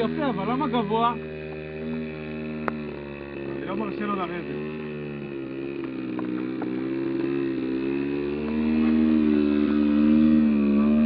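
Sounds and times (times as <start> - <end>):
model plane engine in flight: 0.0 - 11.0.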